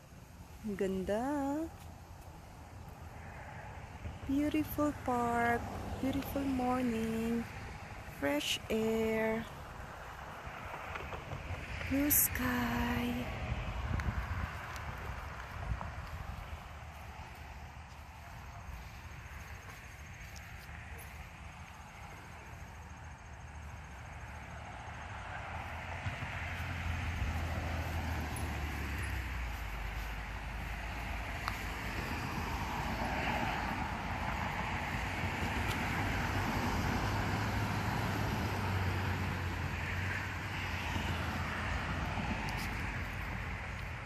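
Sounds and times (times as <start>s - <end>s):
car approaching: 0.0s - 44.0s
road traffic rumble: 0.0s - 44.0s.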